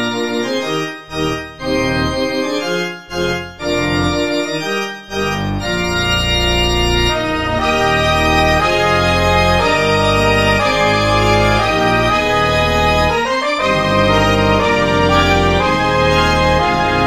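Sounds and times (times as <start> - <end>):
organ playing a hymn: 0.0 - 17.0.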